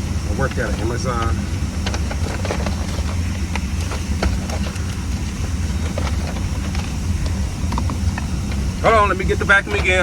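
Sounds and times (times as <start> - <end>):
car idling: 0.0 - 10.0.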